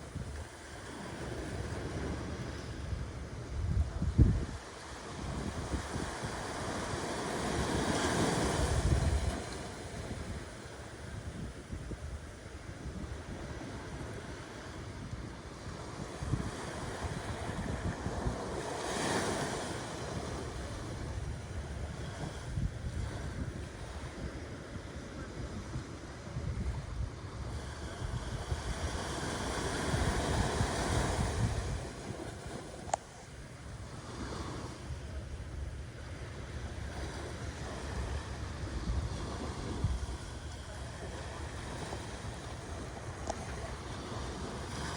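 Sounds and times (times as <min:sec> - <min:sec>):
ocean waves breaking: 0:00.0 - 0:44.9
wind rumble on microphone: 0:00.0 - 0:44.9.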